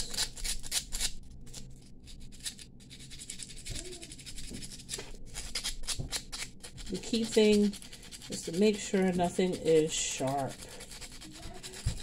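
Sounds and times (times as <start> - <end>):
hand file scratching brass: 2.4 - 12.0.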